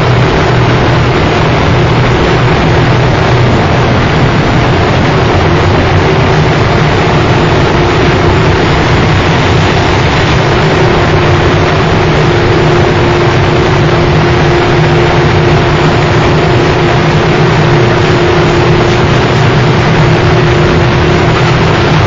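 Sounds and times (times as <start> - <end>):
held mid-pitched tone: 0.0 - 21.9
low droning hum: 0.0 - 22.0
wall of noise: 0.0 - 22.0.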